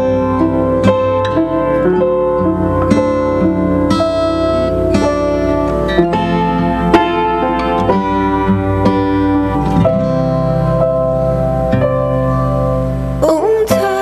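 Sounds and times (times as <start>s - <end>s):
plucked string notes: 0.0s - 14.0s.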